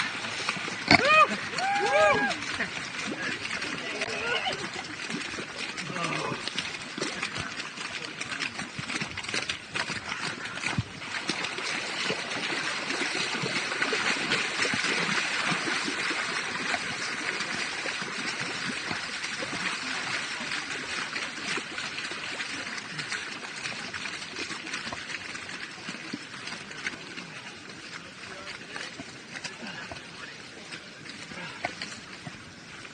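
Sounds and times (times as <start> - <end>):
stream water rushing: 0.0 - 32.9.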